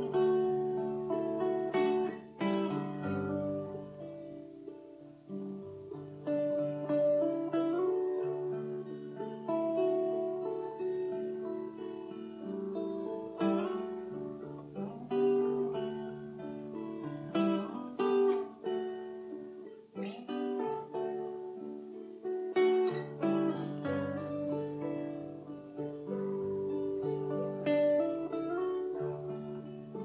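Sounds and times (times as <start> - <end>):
acoustic guitar strumming chords: 0.0 - 30.0
mandolin picked notes: 0.0 - 30.0.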